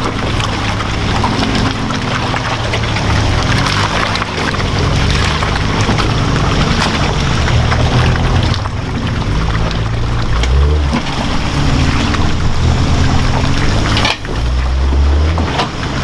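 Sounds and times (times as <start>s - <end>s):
truck engine under load: 0.0s - 16.0s
water splashing and pouring: 0.0s - 16.0s.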